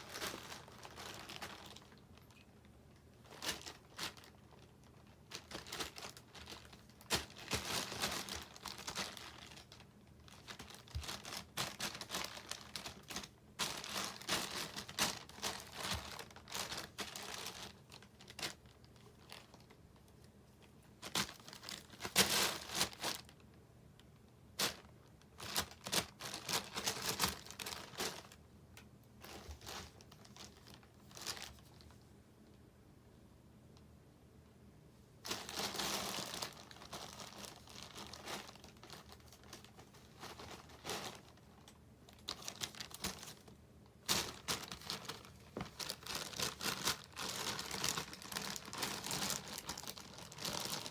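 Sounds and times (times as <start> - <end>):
wrapping rustling and crackling: 0.0 - 32.0, 35.2 - 50.9.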